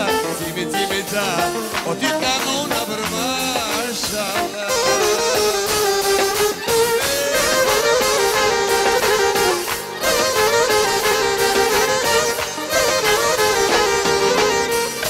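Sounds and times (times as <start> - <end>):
live folk-pop band: 0.0 - 15.0
saxophone lead melody: 0.0 - 15.0
violin: 0.0 - 15.0.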